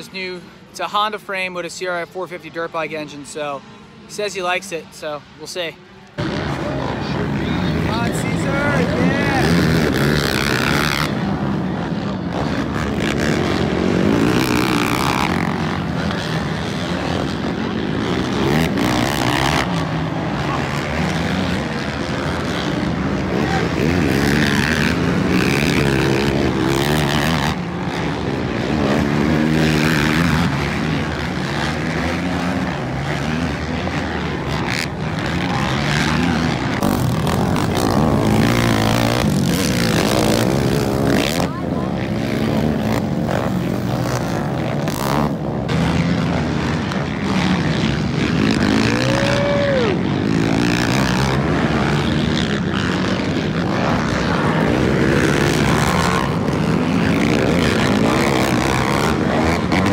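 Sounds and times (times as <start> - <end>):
quad engines revving: 0.0 - 59.9.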